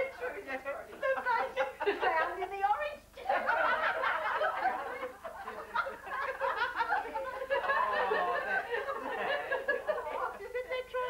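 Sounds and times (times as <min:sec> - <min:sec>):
women laughing together: 0:01.0 - 0:02.5, 0:03.2 - 0:10.6.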